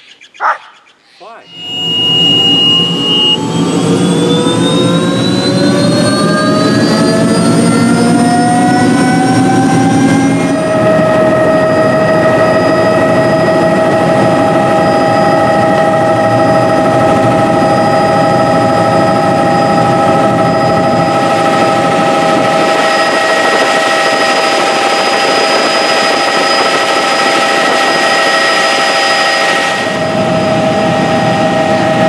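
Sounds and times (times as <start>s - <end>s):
helicopter turbine whine: 1.2s - 32.0s
helicopter rotor rumble: 1.3s - 32.0s.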